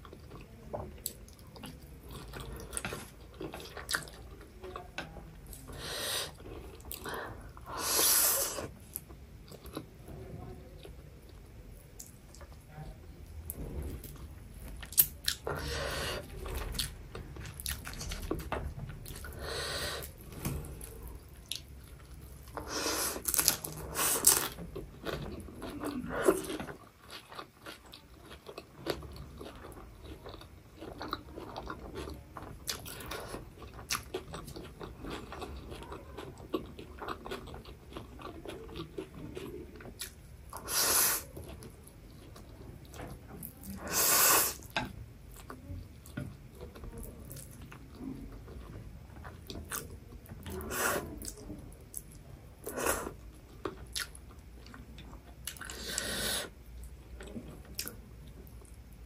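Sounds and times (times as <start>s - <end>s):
wet chewing: 0.0s - 10.0s, 14.0s - 58.8s.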